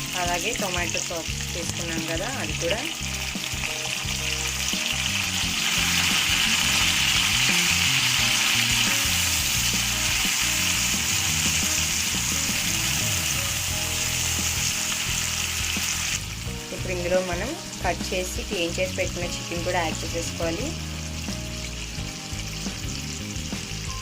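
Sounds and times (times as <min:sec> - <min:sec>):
food sizzling in hot oil: 0:00.0 - 0:24.0
soft background music: 0:00.0 - 0:24.0.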